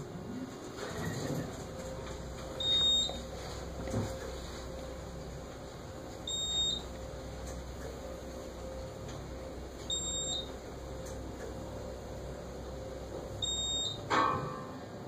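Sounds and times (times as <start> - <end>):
steady low hum: 0.0 - 15.0
elevator warning beeps: 0.8 - 14.6.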